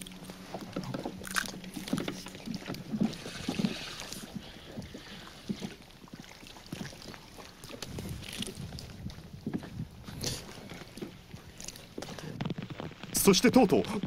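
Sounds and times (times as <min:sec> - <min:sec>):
water lapping against boat hull: 0:00.0 - 0:14.0
light knocks of rocking boat: 0:00.4 - 0:12.6.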